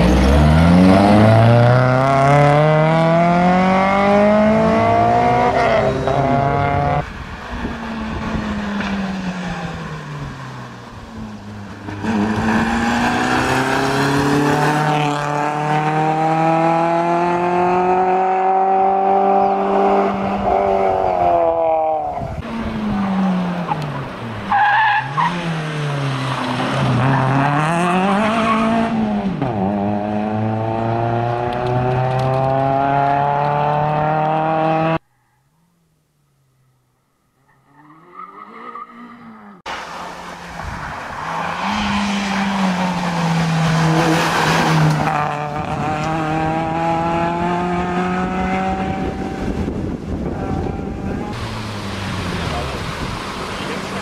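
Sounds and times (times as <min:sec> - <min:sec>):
rally car engine revving: 0:00.0 - 0:35.0, 0:41.3 - 0:54.0.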